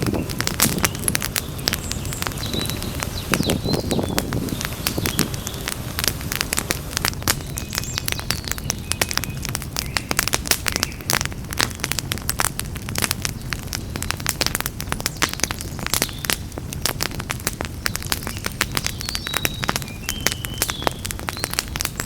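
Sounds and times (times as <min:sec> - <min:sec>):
campfire pops and snaps: 0:00.0 - 0:22.0
low rumble of burning wood: 0:00.0 - 0:22.0.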